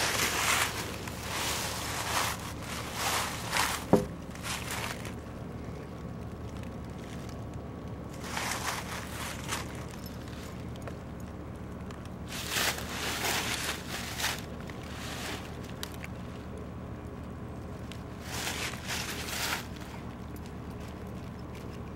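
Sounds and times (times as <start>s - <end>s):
dry leaves rustling and crunching: 0.0s - 16.7s, 17.6s - 21.9s.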